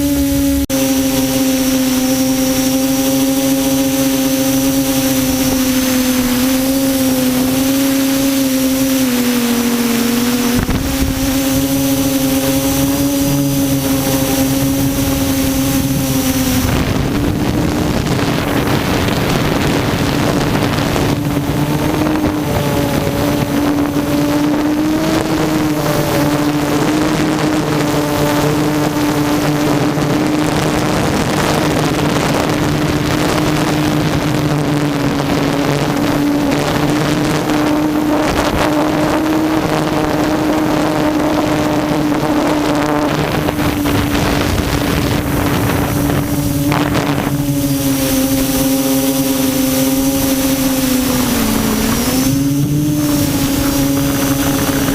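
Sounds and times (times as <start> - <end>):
quadcopter motors whining: 0.0 - 54.9
wind noise on microphone: 0.0 - 54.9.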